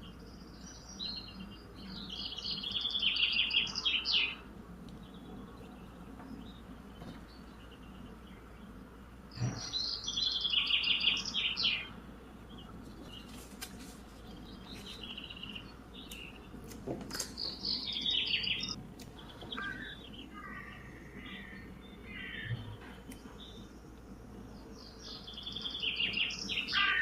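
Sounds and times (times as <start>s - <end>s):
small birds twittering: 0.0s - 27.0s.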